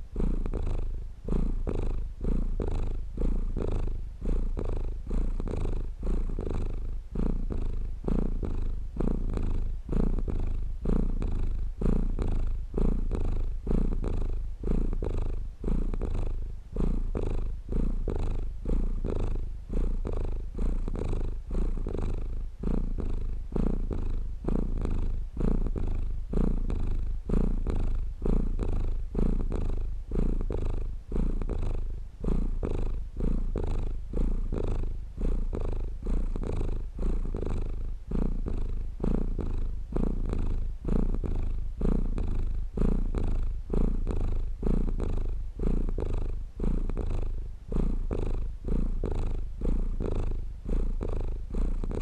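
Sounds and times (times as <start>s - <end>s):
cat purring: 0.0s - 52.0s.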